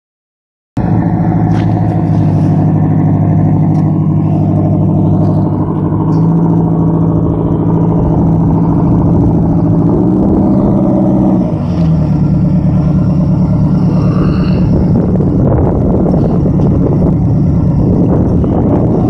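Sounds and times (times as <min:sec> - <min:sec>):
boat engine running: 0:00.8 - 0:19.0.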